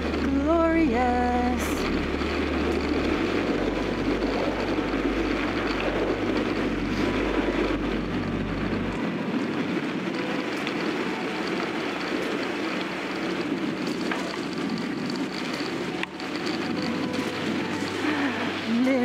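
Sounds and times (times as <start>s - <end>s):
bike tyres rumbling on gravel: 0.0s - 19.0s.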